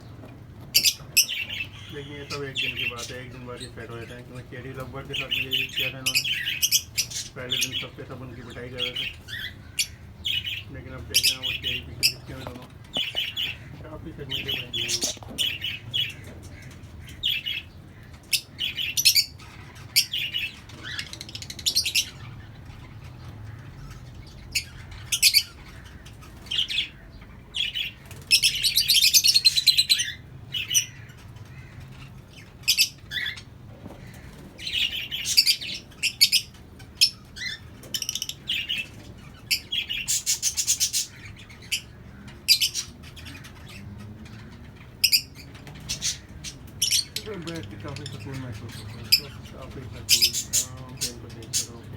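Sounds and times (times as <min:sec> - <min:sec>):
lovebirds chirping and chattering: 0:00.0 - 0:51.9.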